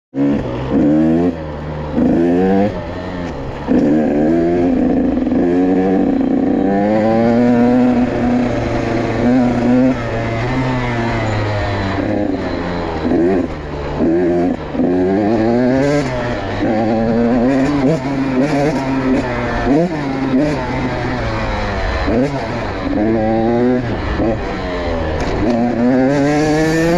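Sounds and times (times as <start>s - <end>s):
motorcycle engine revving: 0.2s - 26.9s.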